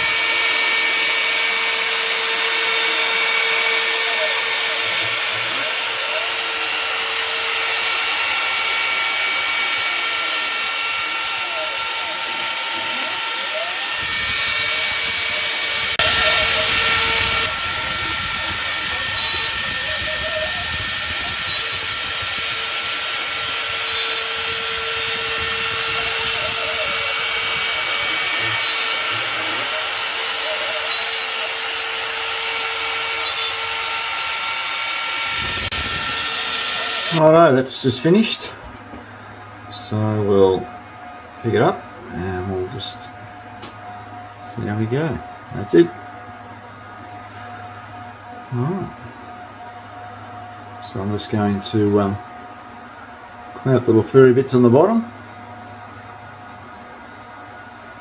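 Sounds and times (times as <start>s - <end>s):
router spindle whine: 0.0s - 58.0s.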